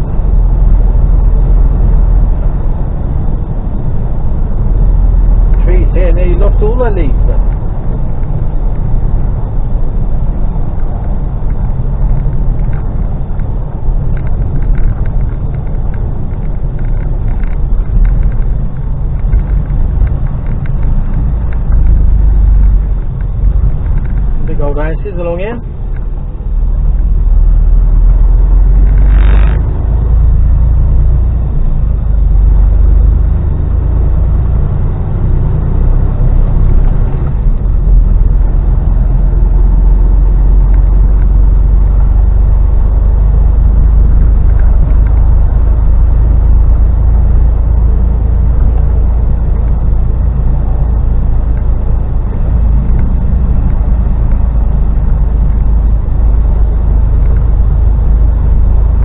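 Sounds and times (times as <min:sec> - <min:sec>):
lorry diesel engine: 0:00.0 - 0:59.0.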